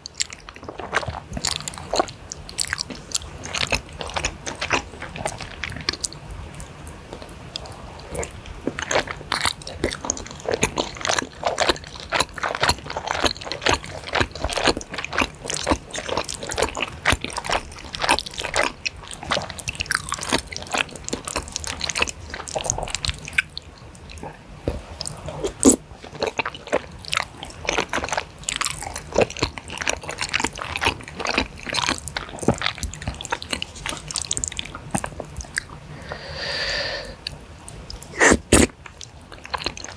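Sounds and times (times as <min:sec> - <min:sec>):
wet chewing and mouth smacks: 0:00.0 - 0:36.3, 0:37.2 - 0:39.9.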